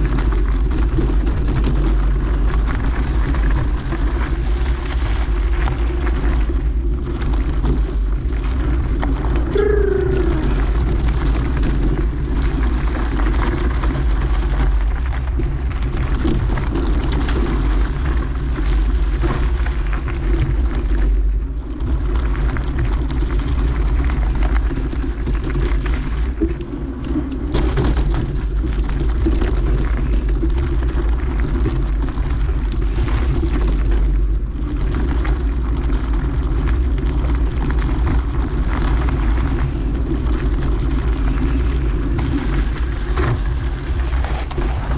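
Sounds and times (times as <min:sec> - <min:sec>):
bike tyres rolling on dirt: 0:00.0 - 0:44.9
wind rumble on microphone: 0:00.0 - 0:44.9.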